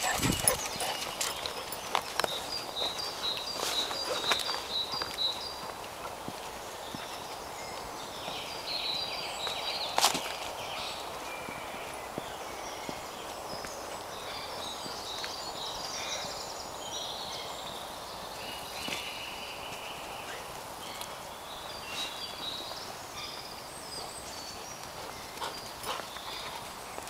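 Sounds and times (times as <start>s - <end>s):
birds singing: 0.0s - 27.0s
footsteps on dirt path: 0.0s - 27.0s.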